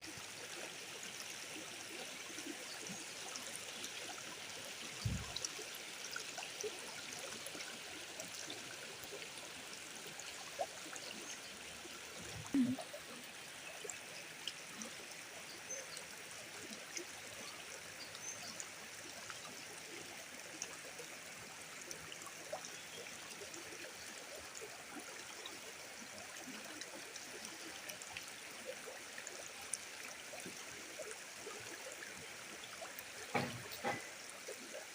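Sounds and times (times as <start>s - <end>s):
river flowing: 0.0s - 34.9s.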